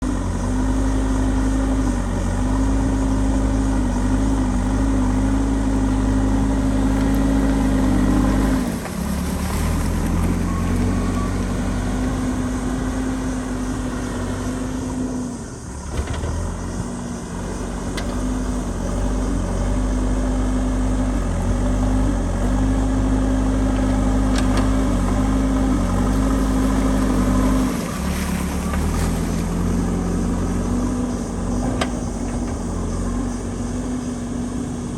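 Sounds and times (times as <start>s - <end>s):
backhoe diesel engine running: 0.0s - 34.9s.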